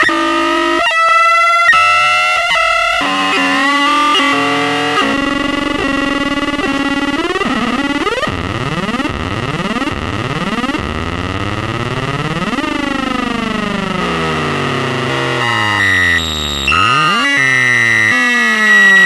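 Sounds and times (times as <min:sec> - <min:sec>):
analog synthesizer sound effects: 0:00.0 - 0:19.0.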